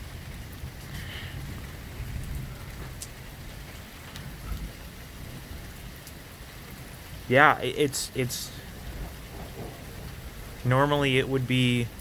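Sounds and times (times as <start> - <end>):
heavy rain hissing: 0.0 - 12.0
low thunder rumble: 0.0 - 12.0.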